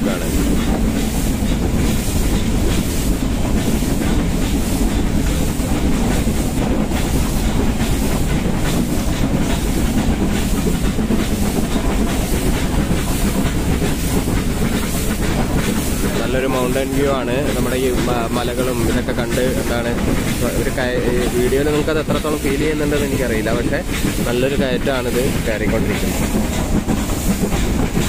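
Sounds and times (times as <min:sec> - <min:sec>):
train wheels rumbling and clattering: 0:00.0 - 0:28.0.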